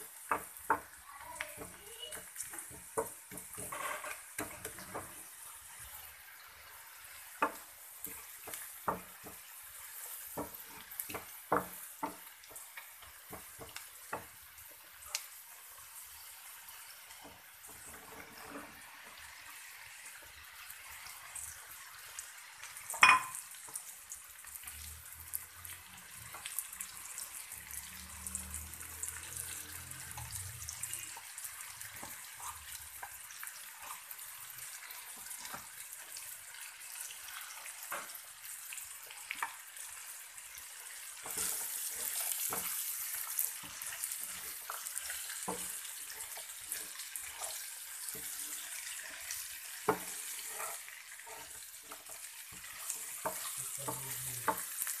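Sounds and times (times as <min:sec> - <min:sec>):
okra sizzling in a frying pan: 0:00.0 - 0:55.0
wooden spatula scraping a pan: 0:00.2 - 0:05.9, 0:06.7 - 0:22.2, 0:25.6 - 0:55.0.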